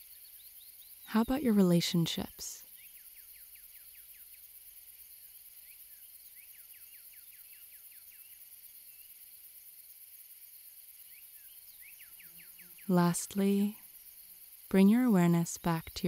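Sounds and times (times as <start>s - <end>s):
soft steady hiss: 0.0s - 16.0s.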